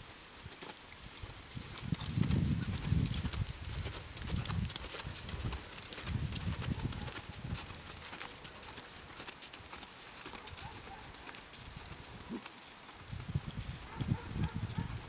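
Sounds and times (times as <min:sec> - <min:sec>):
horse hoofbeats on sand: 0:00.5 - 0:14.9.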